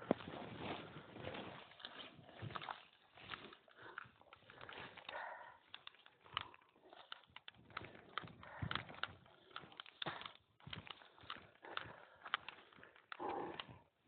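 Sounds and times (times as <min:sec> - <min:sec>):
footsteps on dry leaves and twigs: 0:00.0 - 0:12.8
rustling vegetation: 0:00.0 - 0:13.7.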